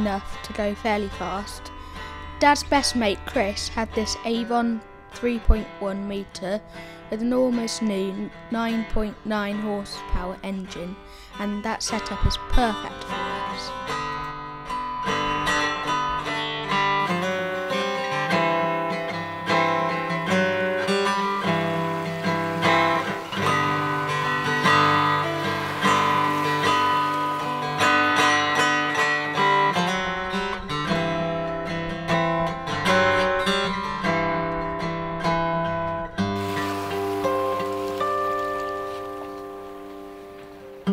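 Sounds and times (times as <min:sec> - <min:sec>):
acoustic guitar plucking and strumming: 0:00.0 - 0:40.9.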